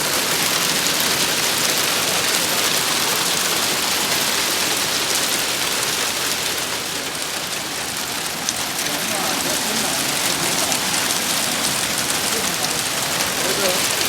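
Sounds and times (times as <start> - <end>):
hail and heavy rain falling: 0.0 - 14.0.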